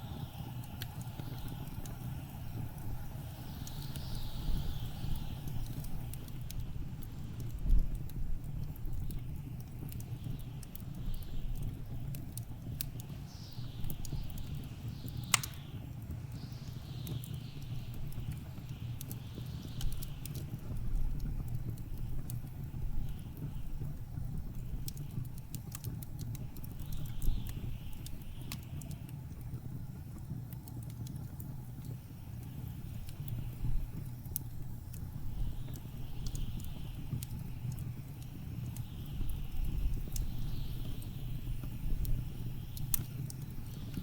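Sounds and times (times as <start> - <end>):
fire popping: 0.0 - 44.0
wood fire crackling: 0.0 - 44.0.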